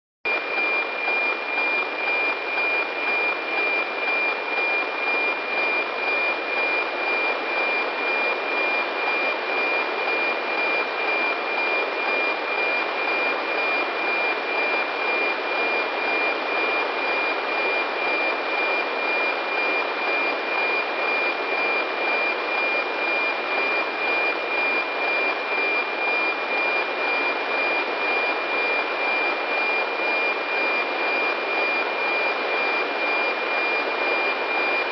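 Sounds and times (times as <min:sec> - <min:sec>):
pulsing satellite radio whistle: 0:00.3 - 0:34.9.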